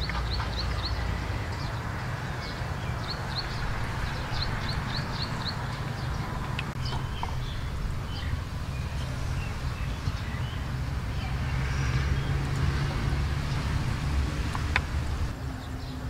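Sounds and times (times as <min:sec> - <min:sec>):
steady low rumble: 0:00.0 - 0:15.6
small bird chirping: 0:02.4 - 0:16.0.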